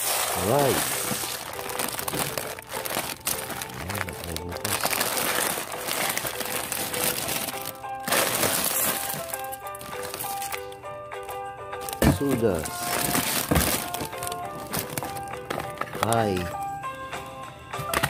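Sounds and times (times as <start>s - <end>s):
plastic packaging crinkling: 0.0s - 16.6s
background music: 0.0s - 18.0s.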